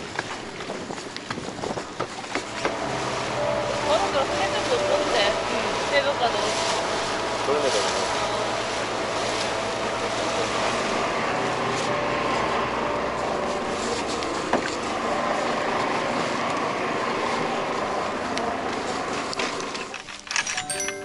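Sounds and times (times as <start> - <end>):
small boat engine running: 0.0 - 21.0
water noise: 0.0 - 21.0
wind: 0.0 - 21.0.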